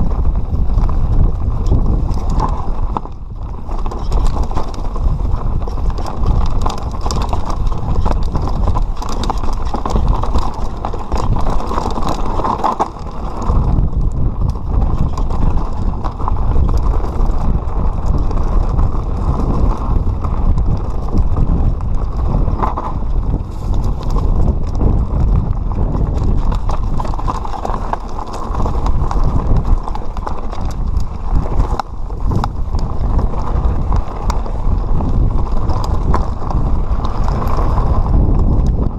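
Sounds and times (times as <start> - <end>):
bike rattling over rocks: 0.0 - 38.9
wind rumbling on microphone: 0.0 - 38.9.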